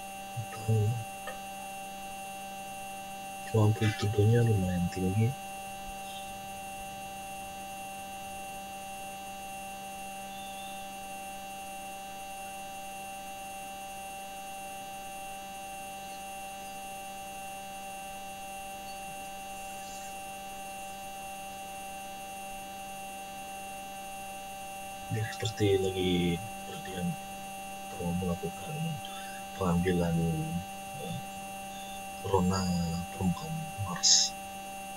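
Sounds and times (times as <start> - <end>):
steady hum of fixed tones: 0.0 - 34.9.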